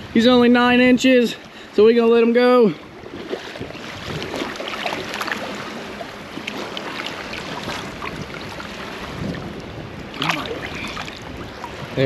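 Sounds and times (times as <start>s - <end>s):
water around boat: 0.0s - 12.0s
wind: 0.0s - 12.0s.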